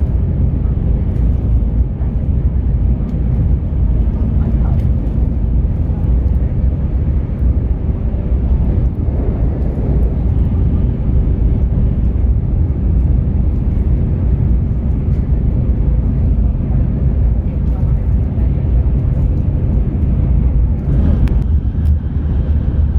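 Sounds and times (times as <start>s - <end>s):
train cabin low rumble: 0.0s - 22.9s.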